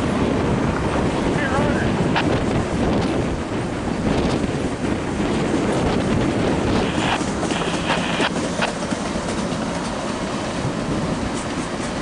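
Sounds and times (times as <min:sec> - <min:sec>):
train wheels clicking over rail joints: 0:02.1 - 0:12.0.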